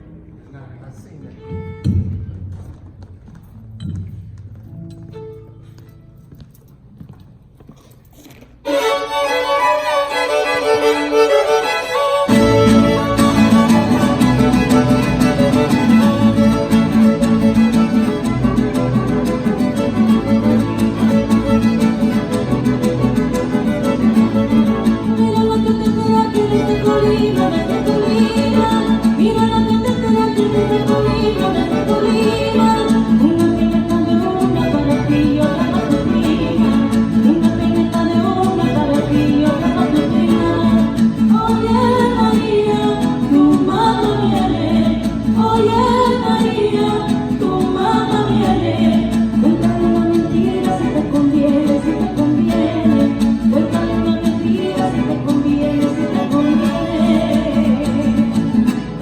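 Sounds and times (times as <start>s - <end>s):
string band playing: 0.0s - 2.8s, 8.6s - 59.0s
person singing: 8.8s - 21.2s, 23.6s - 59.0s.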